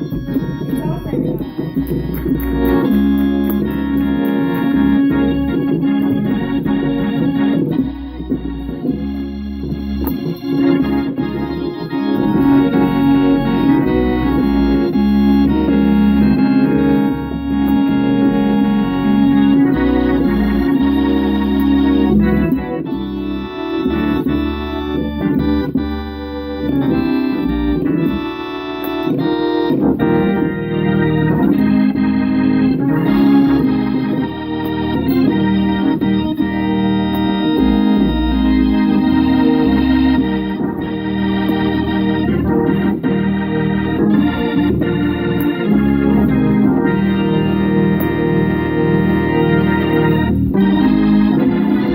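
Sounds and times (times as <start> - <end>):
organ playing gospel music: 0.0 - 51.9.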